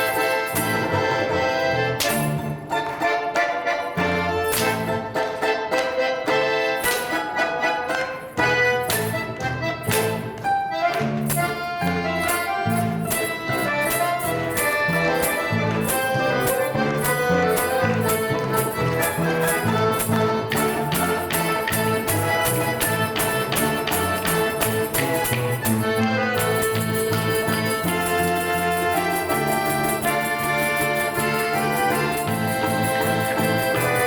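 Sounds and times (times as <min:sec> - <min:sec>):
instrumental folk ensemble: 0:00.0 - 0:34.0.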